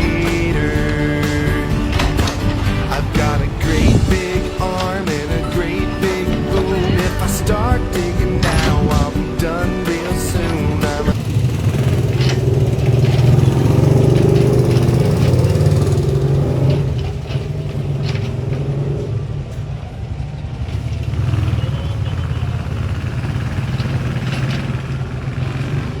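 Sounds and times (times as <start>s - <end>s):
excavator engine running: 0.0s - 26.0s
knocks and clanks: 0.0s - 26.0s.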